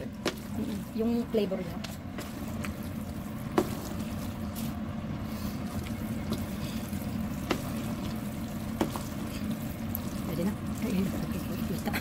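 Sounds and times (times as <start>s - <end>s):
spatula tossing noodles in pot: 0.0s - 12.0s
steady low hum: 0.0s - 12.0s.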